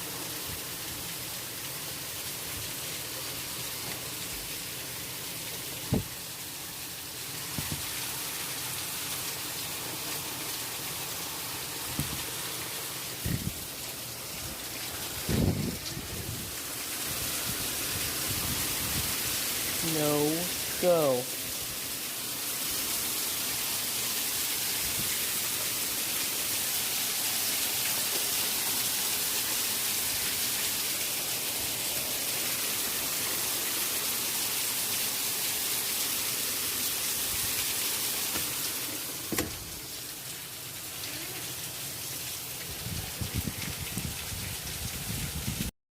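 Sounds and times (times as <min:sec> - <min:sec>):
heavy rain hissing: 0:00.0 - 0:45.7.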